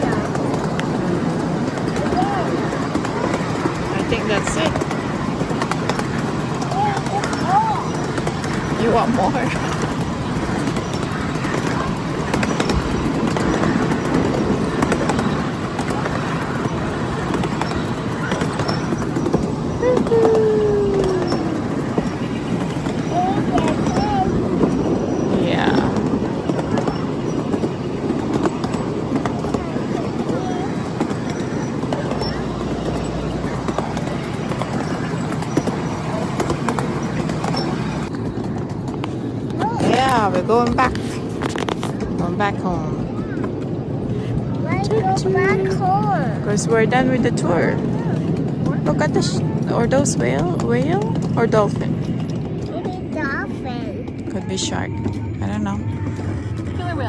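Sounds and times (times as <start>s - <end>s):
miniature train rumbling: 0.0s - 57.0s
wheels clicking and rattling: 0.0s - 57.0s.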